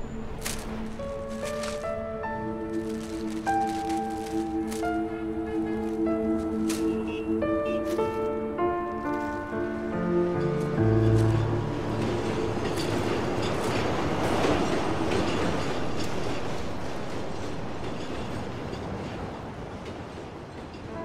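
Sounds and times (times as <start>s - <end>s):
train wheels clicking: 0.0s - 20.9s
elevated train passing: 0.0s - 21.0s.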